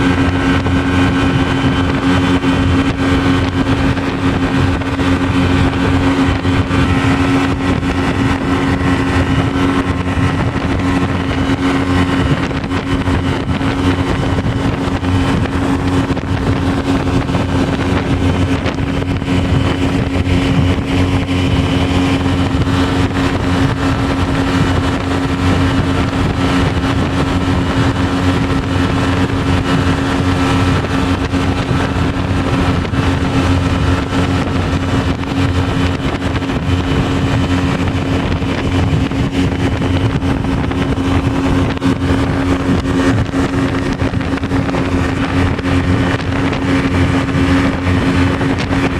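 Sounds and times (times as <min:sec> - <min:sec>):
speedboat engine droning: 0:00.0 - 0:48.9.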